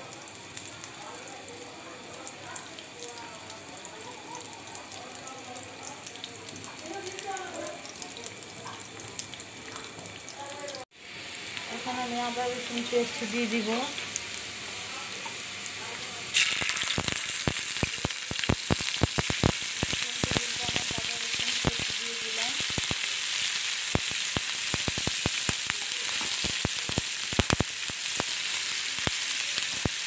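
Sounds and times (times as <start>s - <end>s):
onions sizzling in oil: 0.0s - 30.0s
oil crackling and popping: 0.1s - 30.0s.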